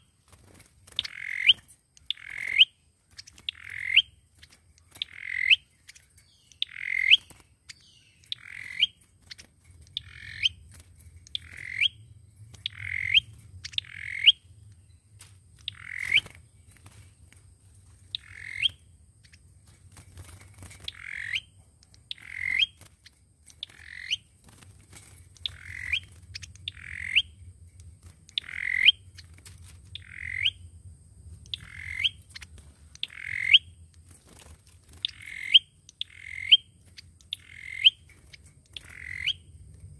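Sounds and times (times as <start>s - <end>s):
songbird calling: 0.0s - 30.7s, 31.3s - 34.0s, 34.7s - 39.7s
faint low hum: 0.0s - 39.9s.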